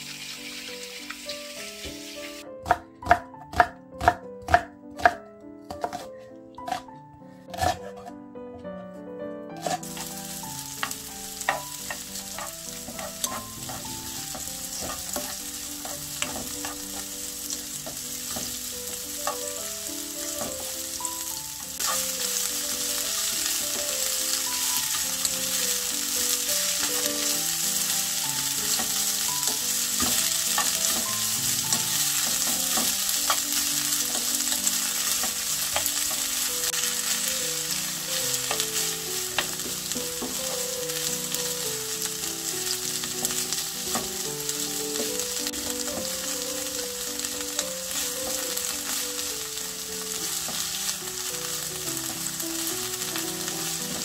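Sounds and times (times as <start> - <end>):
vegetables sizzling in oil: 0.0 - 2.5, 7.6 - 7.8, 9.6 - 54.0
soft background music: 0.0 - 54.0.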